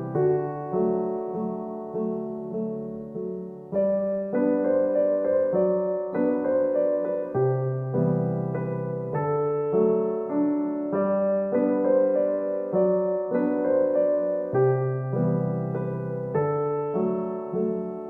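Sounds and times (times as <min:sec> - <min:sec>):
gentle solo piano piece: 0:00.0 - 0:18.0.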